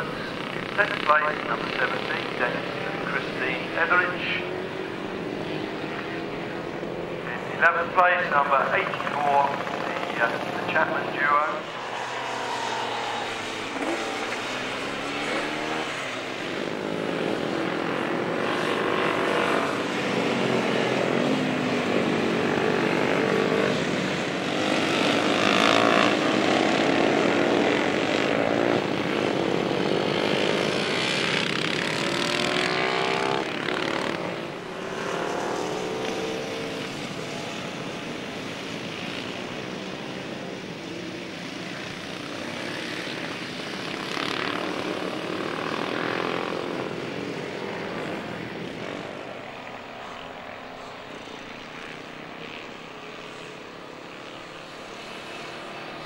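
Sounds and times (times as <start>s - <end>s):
motorcycles passing at speed: 0.0s - 56.0s.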